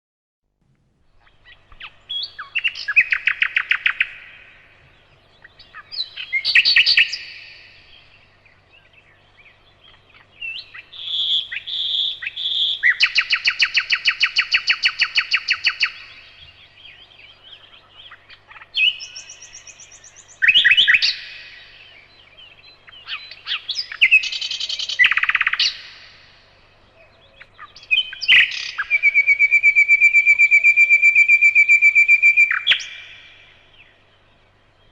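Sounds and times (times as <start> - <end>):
songbirds trilling and chirping: 1.0 - 34.9.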